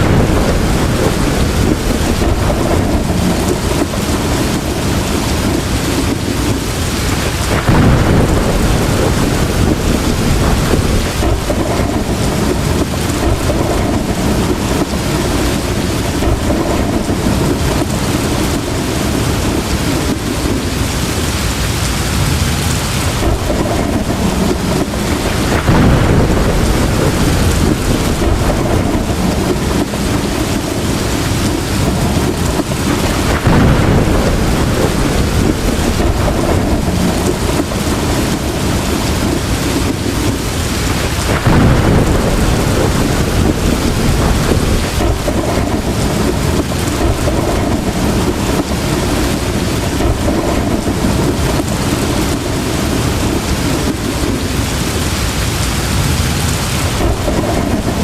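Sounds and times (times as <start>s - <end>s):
heavy rain pouring: 0.0s - 58.0s
thunder rolling: 0.0s - 58.0s.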